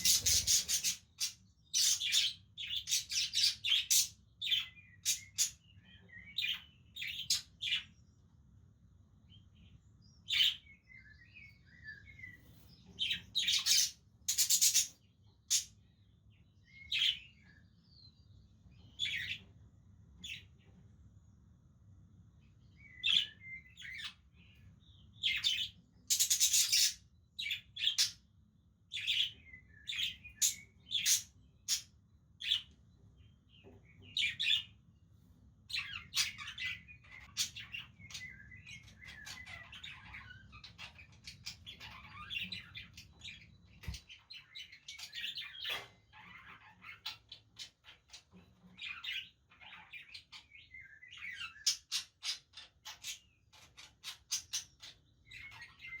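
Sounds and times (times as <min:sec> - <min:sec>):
budgerigars chirping and warbling: 0:00.0 - 0:08.0, 0:10.2 - 0:15.9, 0:16.6 - 0:17.6, 0:18.4 - 0:19.6, 0:22.8 - 0:34.9, 0:35.6 - 0:56.0.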